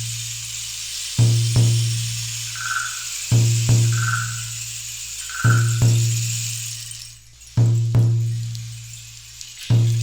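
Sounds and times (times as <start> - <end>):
steady high hiss: 0.0 - 10.0.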